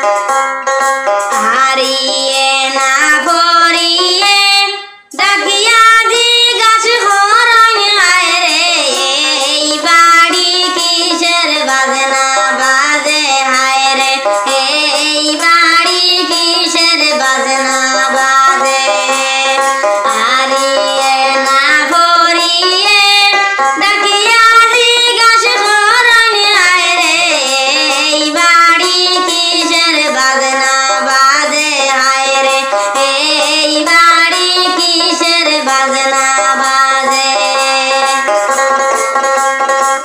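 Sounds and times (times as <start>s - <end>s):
instrumental accompaniment: 0.0s - 40.0s
woman singing wavering melody: 1.2s - 38.6s.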